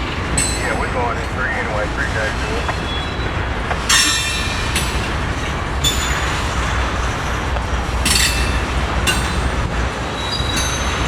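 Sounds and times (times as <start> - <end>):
train rumbling past: 0.0 - 11.0
train wheels squealing: 0.0 - 11.0.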